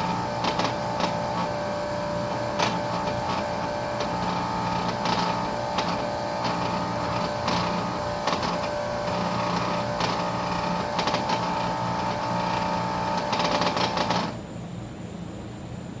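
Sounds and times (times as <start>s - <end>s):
solenoid buzzing and rattling: 0.0s - 14.4s
air conditioner running: 0.0s - 16.0s.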